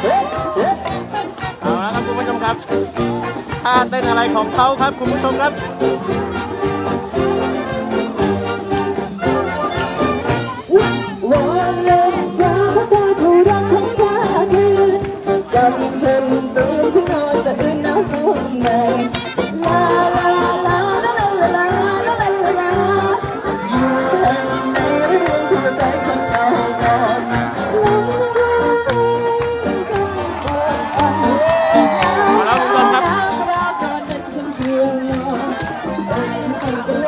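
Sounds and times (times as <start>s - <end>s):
live band playing: 0.0s - 37.0s
maracas rattling: 0.0s - 37.0s
person singing: 0.0s - 37.0s
tambourine jingling: 0.0s - 37.0s.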